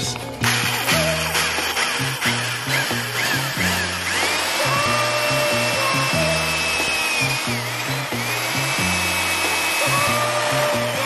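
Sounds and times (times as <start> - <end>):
power drill whining: 0.0 - 11.0.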